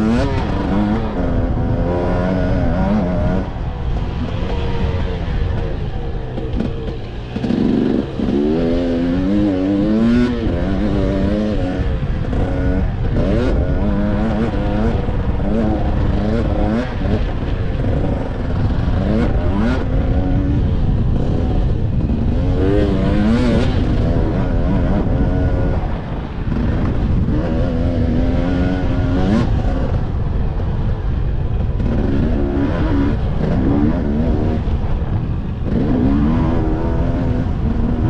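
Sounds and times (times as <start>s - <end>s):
dirt bike engine revving: 0.0s - 38.0s
wind and track rumble: 0.0s - 38.0s.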